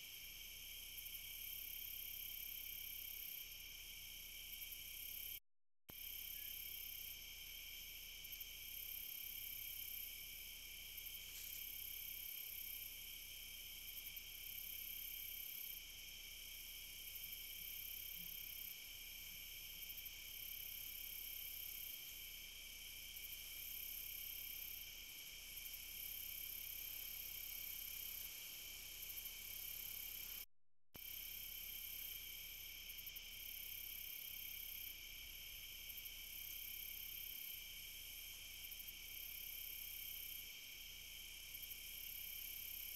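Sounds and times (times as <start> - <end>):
crickets trilling: 0.1 - 30.4, 31.0 - 42.9.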